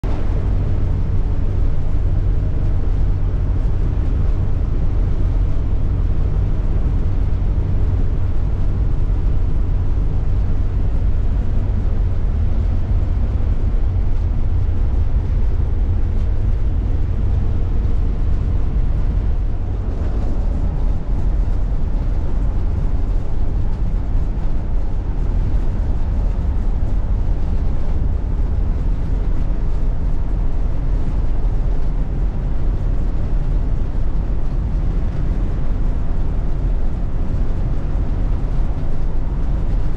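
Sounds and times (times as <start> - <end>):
engine rumble: 0.0 - 39.9
wind noise: 0.0 - 39.9.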